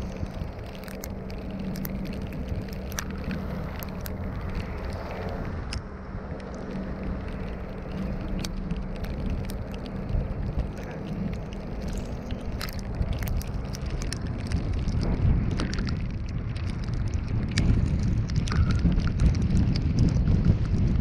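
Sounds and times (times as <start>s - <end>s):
car road and engine rumble: 0.0s - 21.0s
light ticks and clicks: 0.0s - 21.0s.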